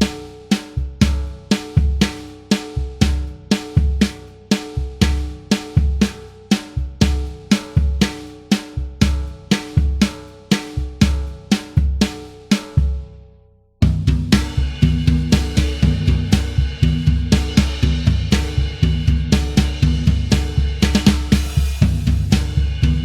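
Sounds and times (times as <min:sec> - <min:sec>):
ringing snare drum: 0:00.0 - 0:13.2, 0:13.8 - 0:23.0
kick drum: 0:00.8 - 0:02.2, 0:02.8 - 0:08.2, 0:08.8 - 0:10.2, 0:10.8 - 0:13.2, 0:13.8 - 0:23.0.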